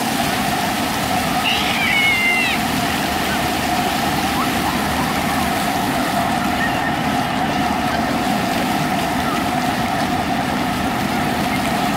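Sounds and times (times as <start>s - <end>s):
constant hum: 0.0s - 11.9s
fountain jets spraying water: 0.0s - 11.9s.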